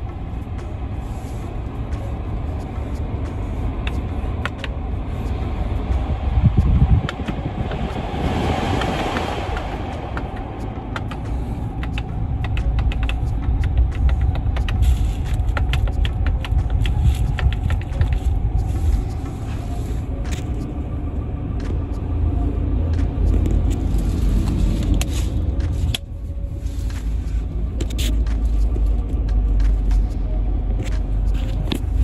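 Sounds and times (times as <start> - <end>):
vehicle rumbling: 0.0 - 32.0.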